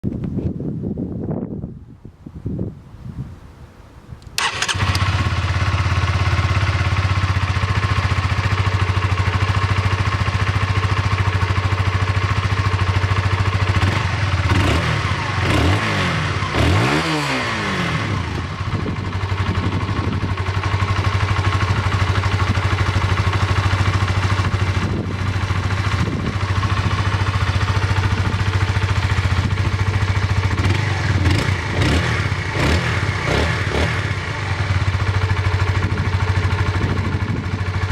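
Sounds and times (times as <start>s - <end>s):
motorcycle engine starting and idling: 4.3s - 37.9s.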